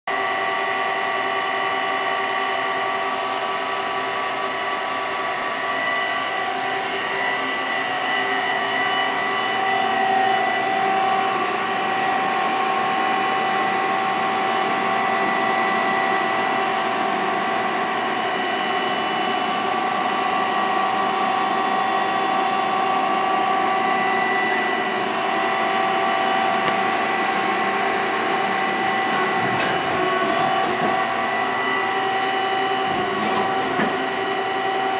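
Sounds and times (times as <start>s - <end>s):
lathe machine drone: 0.1s - 34.9s
held whining tones: 5.6s - 34.9s.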